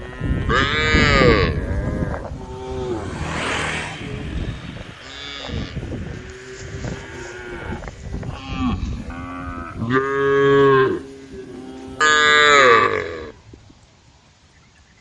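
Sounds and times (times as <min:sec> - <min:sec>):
cows mooing: 0:00.0 - 0:13.4.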